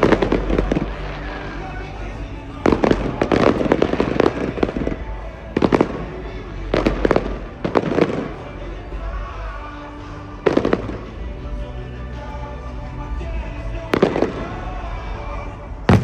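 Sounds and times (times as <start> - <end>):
fireworks bangs: 0.0 - 11.6, 13.2 - 16.0
faint music: 0.0 - 16.0.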